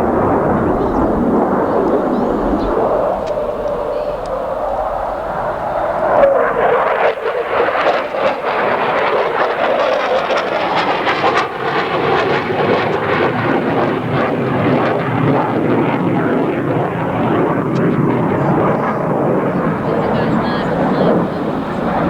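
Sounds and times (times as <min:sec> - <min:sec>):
jet fighter flying overhead: 0:00.0 - 0:22.0.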